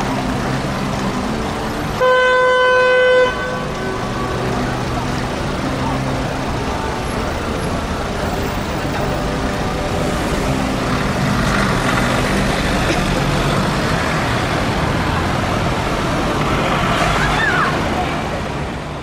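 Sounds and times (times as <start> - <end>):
car engines passing: 0.0 - 19.0
idling engine hum: 0.0 - 19.0.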